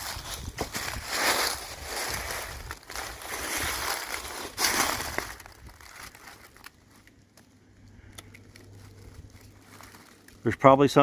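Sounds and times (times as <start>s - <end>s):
footsteps crunching dry leaves: 0.0s - 7.3s, 8.5s - 11.0s.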